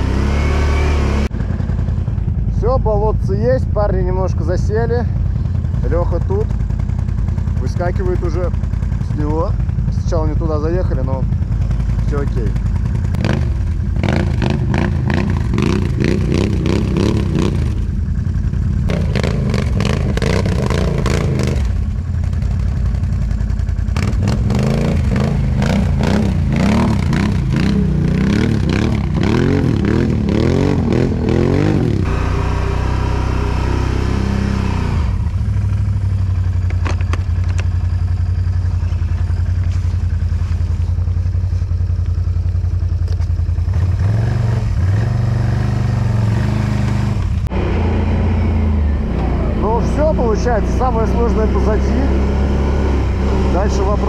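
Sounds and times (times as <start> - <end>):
atv engines revving: 0.0 - 54.0.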